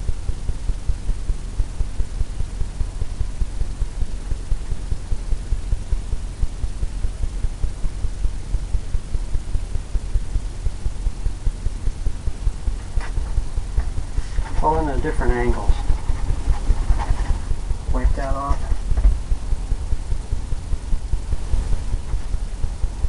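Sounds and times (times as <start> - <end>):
paint strokes drumming on canvas: 0.0 - 23.0.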